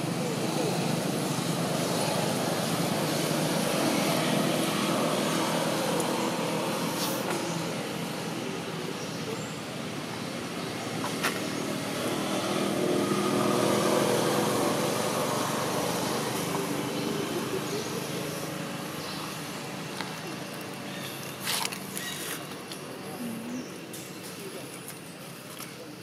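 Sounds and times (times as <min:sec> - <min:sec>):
traffic engine hum: 0:00.0 - 0:26.0.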